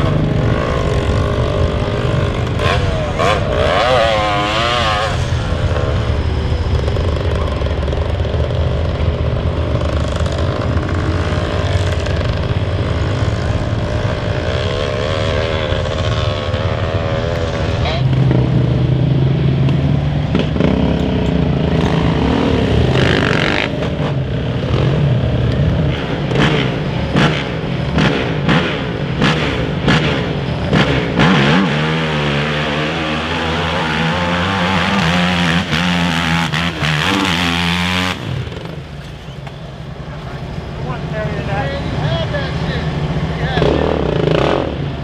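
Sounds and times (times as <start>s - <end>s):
quad engine revving: 0.0s - 19.4s, 20.3s - 39.1s, 40.9s - 45.0s.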